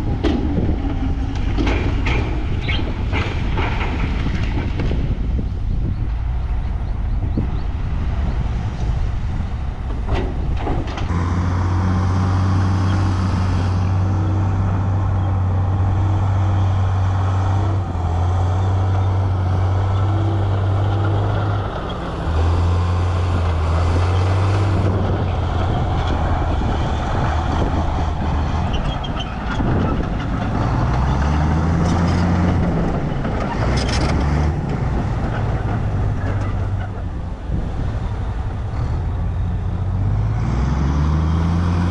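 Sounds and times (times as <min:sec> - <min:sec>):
heavy diesel engines under load: 0:00.0 - 0:41.9.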